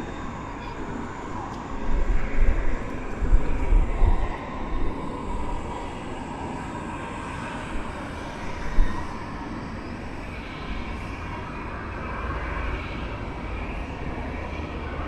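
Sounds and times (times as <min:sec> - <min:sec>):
jet engines running: 0:00.0 - 0:15.0
wind buffeting microphone: 0:00.0 - 0:15.0.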